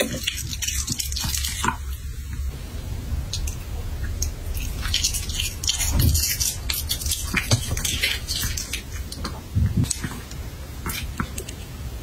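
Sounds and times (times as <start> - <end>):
dog chewing food: 0.0 - 2.5, 3.2 - 11.8
low hum: 0.2 - 12.0.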